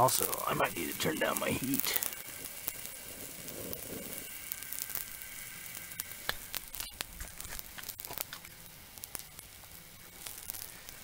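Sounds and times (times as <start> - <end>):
batter sizzling on griddle: 0.0 - 11.0.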